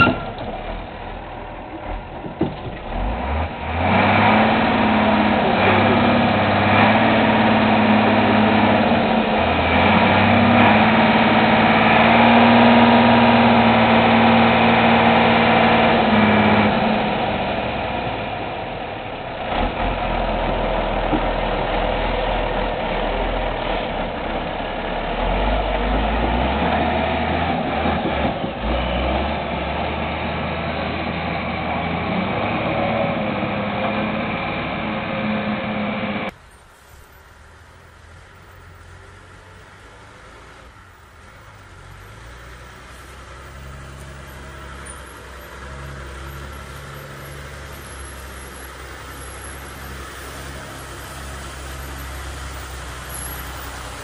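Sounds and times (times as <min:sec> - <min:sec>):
diesel truck engine under load: 0:00.0 - 0:36.5, 0:37.4 - 0:54.0.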